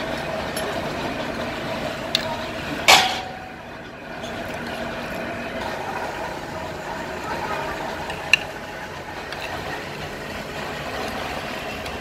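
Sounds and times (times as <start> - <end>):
drilling rig engine drone: 0.0 - 12.0.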